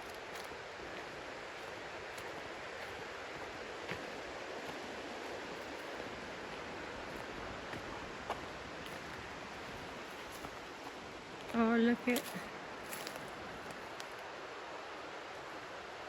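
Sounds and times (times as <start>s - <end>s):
rushing outdoor background noise: 0.0s - 16.0s.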